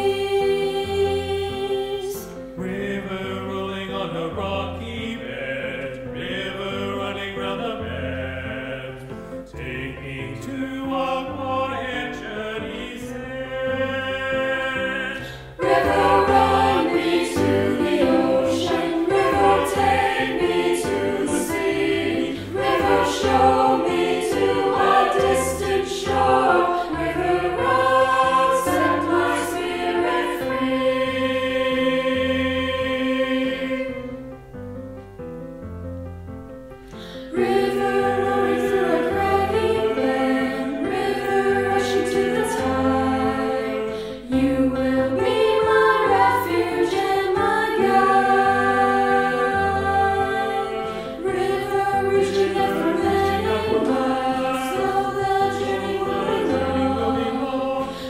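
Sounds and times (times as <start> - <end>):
choir singing with accompaniment: 0.0 - 34.6, 37.0 - 58.0.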